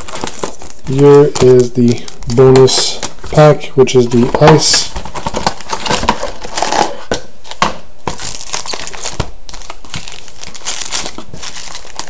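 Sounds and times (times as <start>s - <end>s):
card pack wrappers crinkling: 0.0s - 12.0s.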